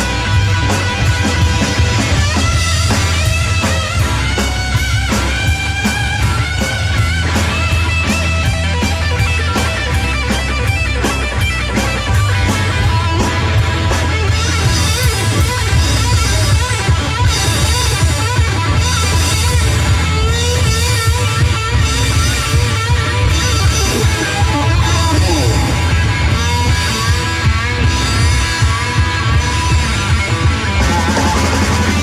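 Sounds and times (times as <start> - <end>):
bass line: 0.0 - 32.0
drums with cymbal beat: 0.0 - 32.0
electric guitar lead: 0.0 - 32.0.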